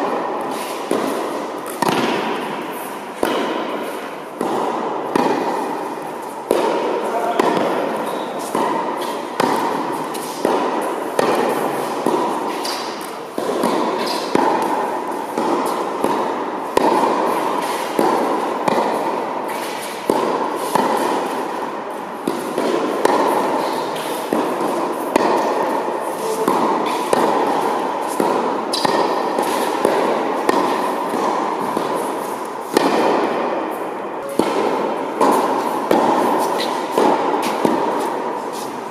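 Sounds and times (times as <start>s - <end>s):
racket striking tennis ball: 0.0s - 38.9s
tennis ball bouncing: 0.0s - 38.9s.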